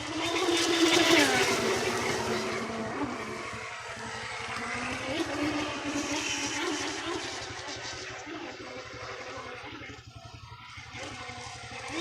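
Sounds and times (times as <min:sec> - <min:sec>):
electric boat motor whining: 0:00.0 - 0:12.0.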